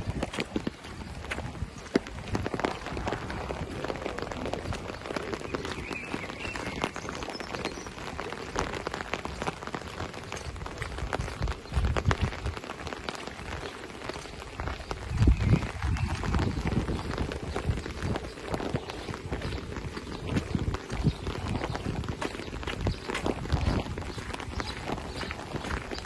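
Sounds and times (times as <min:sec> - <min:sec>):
heavy rain on asphalt: 0:00.0 - 0:26.0.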